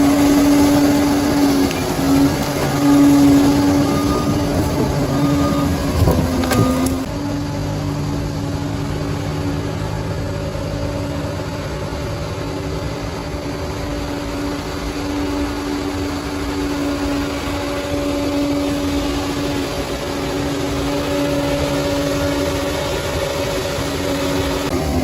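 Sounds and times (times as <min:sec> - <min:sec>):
bulldozer diesel engine rumbling: 0:00.0 - 0:25.0.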